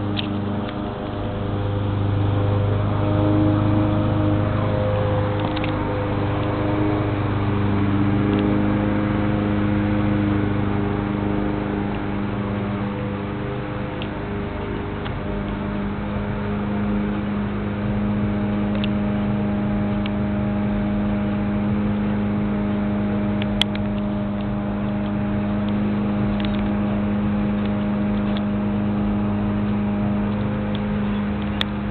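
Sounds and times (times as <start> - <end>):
low mechanical hum: 0.0 - 31.9.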